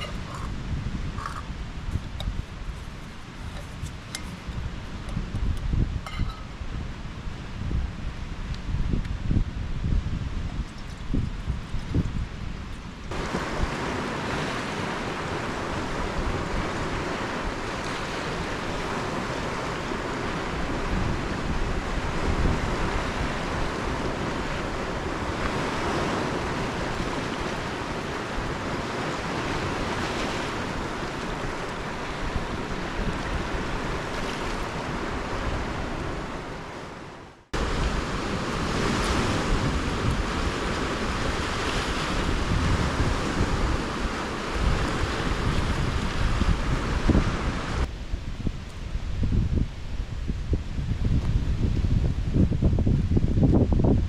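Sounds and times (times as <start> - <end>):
waves washing onto shore: 0.0 - 49.1
wind rumbling on microphone: 0.0 - 54.0.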